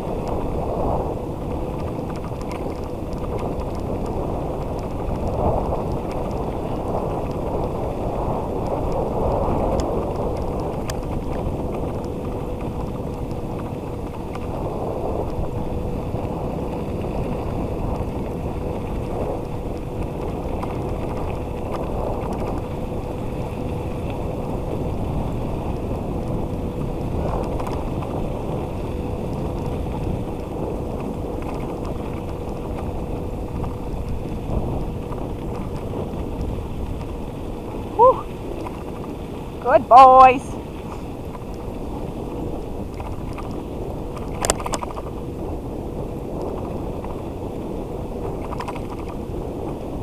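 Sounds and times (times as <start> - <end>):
thin steady whine: 0.0 - 50.0
wheels rolling over wet ground: 0.0 - 50.0
wind on microphone: 0.0 - 50.0.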